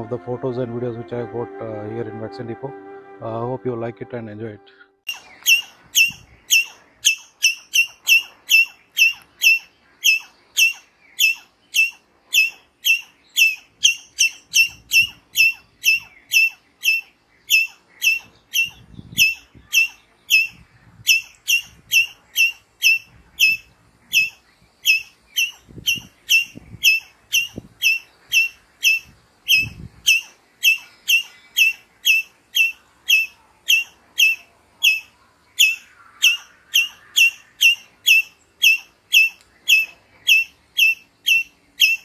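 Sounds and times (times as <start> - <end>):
squirrel chipping calls: 5.1 - 42.0.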